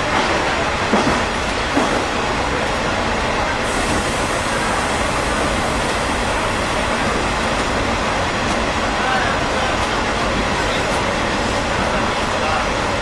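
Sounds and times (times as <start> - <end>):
railcar rumbling through tunnel: 0.0 - 13.0.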